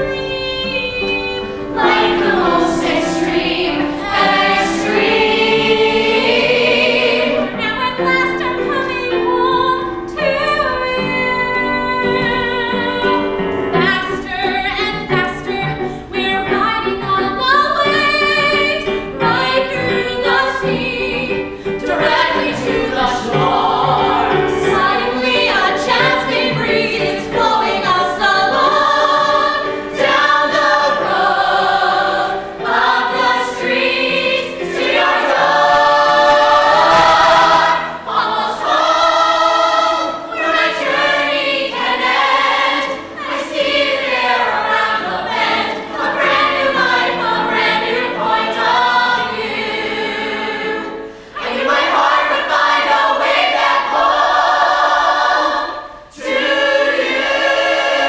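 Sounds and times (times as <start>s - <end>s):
men and women singing in harmony: 0.0s - 58.0s.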